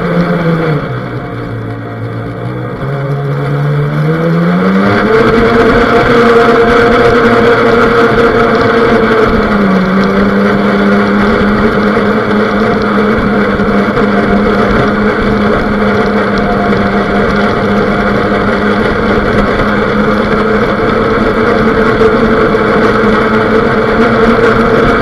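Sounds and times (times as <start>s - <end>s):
boat motor humming: 0.0s - 25.0s
water rushing: 0.0s - 25.0s.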